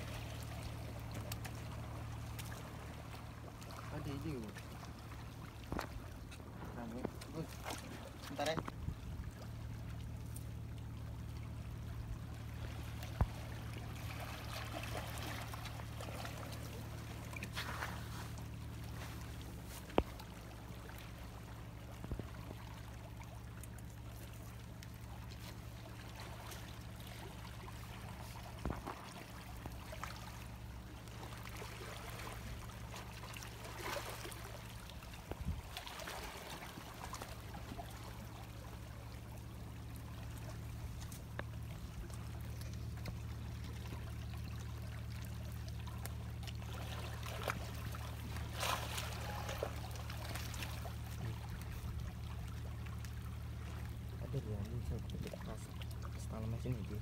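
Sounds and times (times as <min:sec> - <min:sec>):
steady low rumble: 0:00.0 - 0:57.0
water lapping over rocks: 0:00.0 - 0:57.0.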